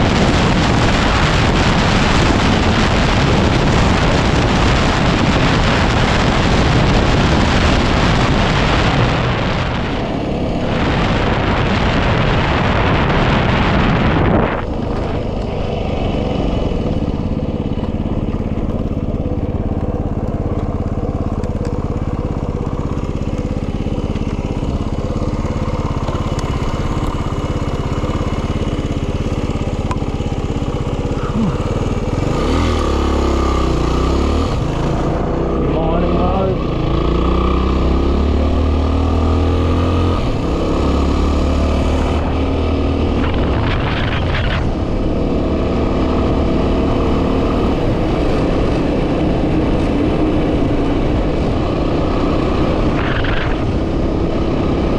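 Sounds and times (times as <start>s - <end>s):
motorcycle engine running: 0.0s - 54.9s
wind noise on microphone: 0.0s - 54.9s.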